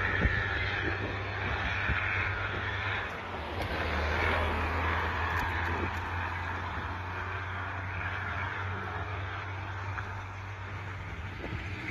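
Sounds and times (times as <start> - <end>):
diesel truck engine pulling hard: 0.0 - 11.9.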